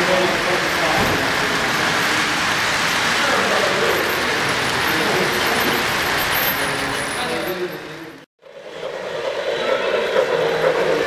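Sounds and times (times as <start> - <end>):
people talking: 0.0 - 2.5, 3.2 - 5.9, 6.5 - 8.2, 8.8 - 11.0.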